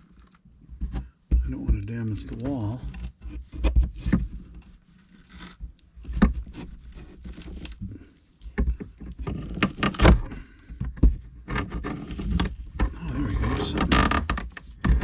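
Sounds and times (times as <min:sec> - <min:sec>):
knocks and scrapes on wall panel: 0:00.0 - 0:15.0.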